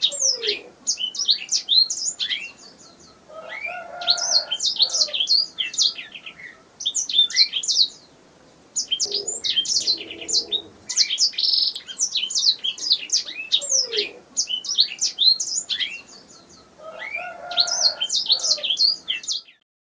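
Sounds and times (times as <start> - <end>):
canary singing: 0.0 - 19.6.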